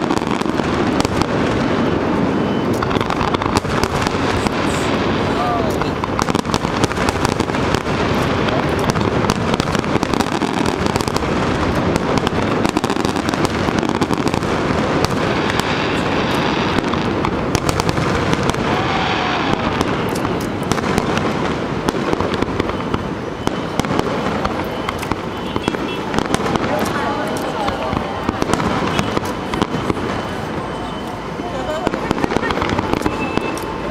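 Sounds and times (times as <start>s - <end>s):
fireworks bursts and crackling: 0.0s - 33.9s.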